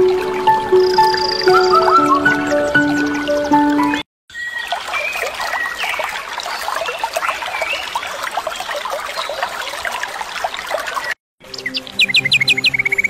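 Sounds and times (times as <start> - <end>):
stream splashing over rocks: 0.0 - 11.2.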